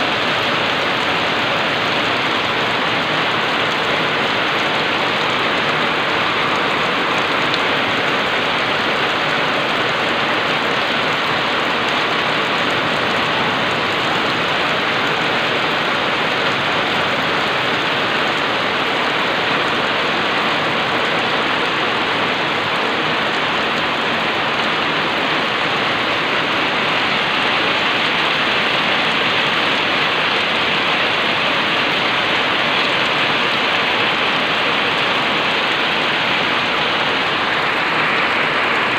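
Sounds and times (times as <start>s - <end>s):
heavy rain on pavement and plants: 0.0s - 38.9s.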